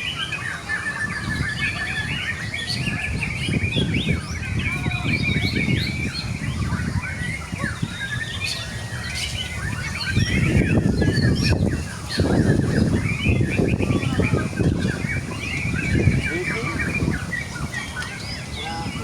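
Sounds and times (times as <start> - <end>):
bird singing chirps and whistles: 0.0 - 19.0
other songbirds: 0.0 - 19.0.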